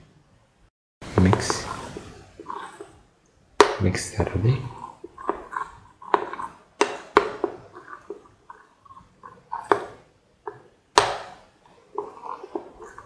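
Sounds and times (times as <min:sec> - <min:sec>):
spoon stirring batter: 0:01.0 - 0:13.0.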